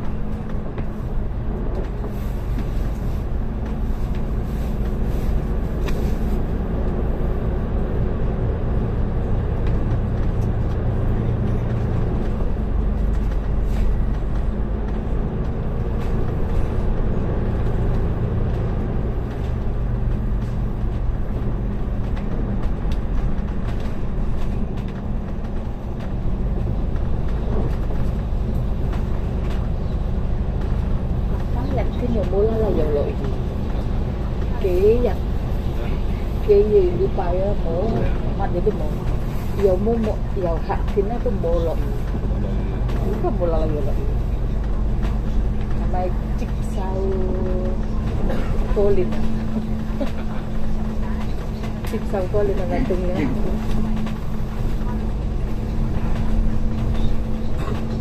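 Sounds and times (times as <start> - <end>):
bus engine drone: 0.0 - 58.0
road and tyre noise: 0.0 - 58.0.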